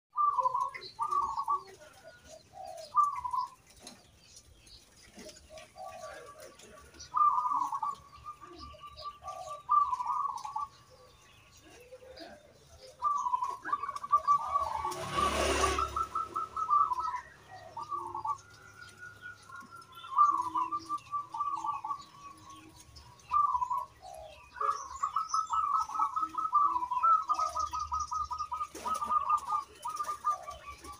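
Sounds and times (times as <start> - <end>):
dove cooing: 0.2 - 30.9.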